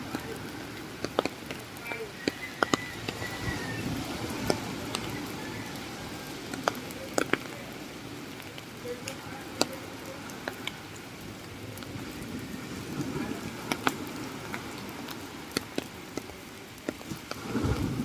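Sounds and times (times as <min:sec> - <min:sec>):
raindrops tapping: 0:00.0 - 0:18.0
steady rain falling: 0:00.0 - 0:18.0.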